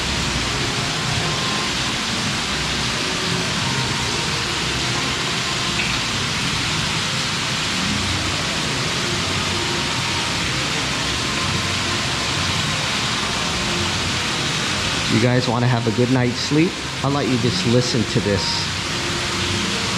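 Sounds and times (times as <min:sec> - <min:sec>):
water falling into fountain pool: 0:00.0 - 0:19.9.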